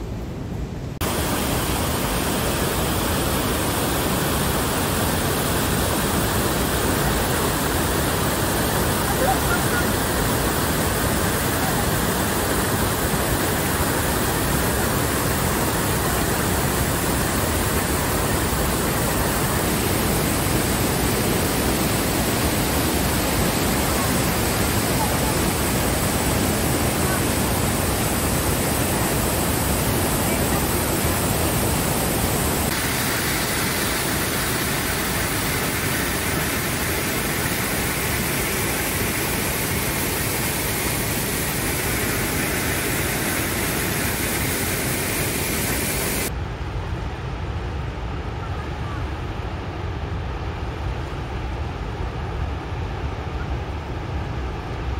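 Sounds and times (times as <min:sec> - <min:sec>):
waterfall rushing over rocks: 0:01.0 - 0:46.4.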